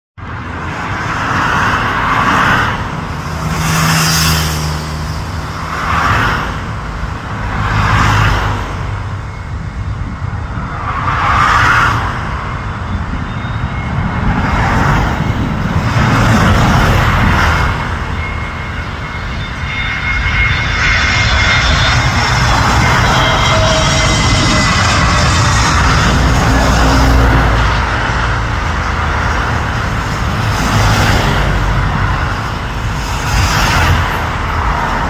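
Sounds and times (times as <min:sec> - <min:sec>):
cars passing: 0:00.2 - 0:35.0
steady low rumble: 0:01.8 - 0:35.0.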